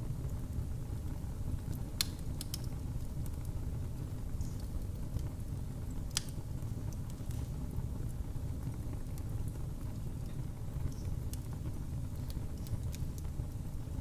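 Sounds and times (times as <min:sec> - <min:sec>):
fire crackles and pops: 0:00.0 - 0:14.0
fire rumbling in fireplace: 0:00.0 - 0:14.0.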